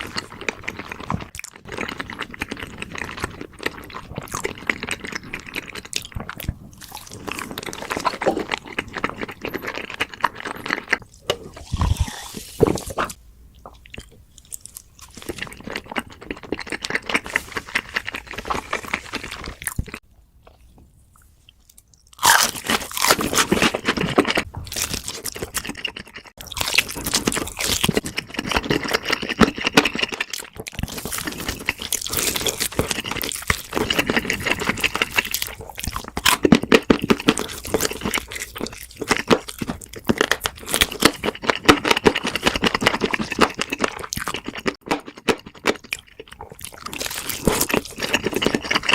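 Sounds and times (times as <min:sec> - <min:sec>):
crunching and chewing crispy food: 0:00.0 - 0:11.0, 0:11.6 - 0:20.7, 0:21.6 - 0:48.9.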